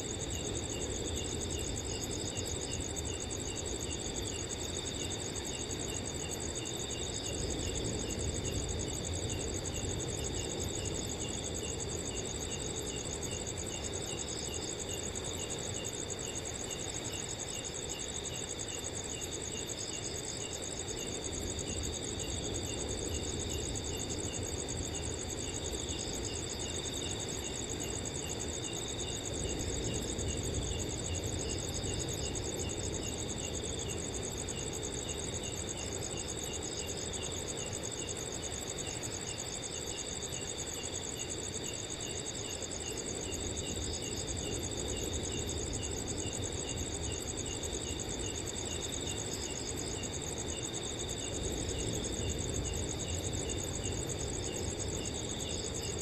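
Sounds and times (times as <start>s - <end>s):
cricket chirping regularly: 0.0s - 56.0s
crickets trilling: 0.0s - 56.0s
pulsed cricket chirps: 0.0s - 56.0s.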